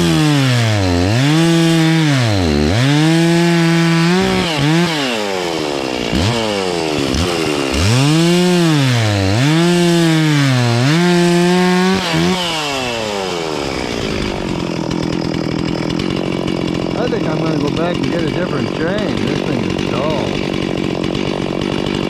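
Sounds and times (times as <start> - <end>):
chainsaw cutting log: 0.0 - 22.0.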